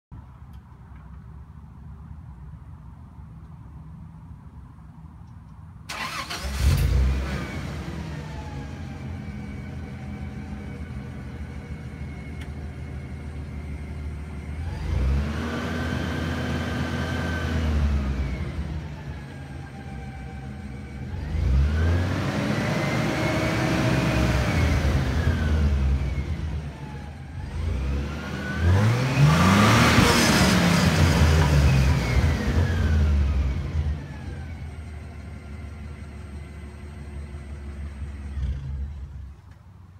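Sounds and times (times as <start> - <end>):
car engine starting and revving: 5.9 - 39.6.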